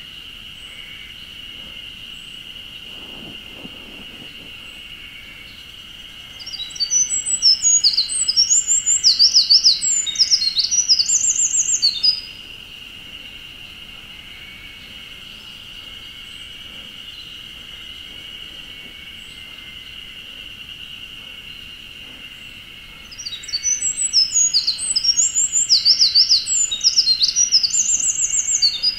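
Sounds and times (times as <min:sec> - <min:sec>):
steady high-pitched hum: 0:00.0 - 0:28.9
bird trilling song: 0:02.1 - 0:12.5, 0:14.2 - 0:28.9.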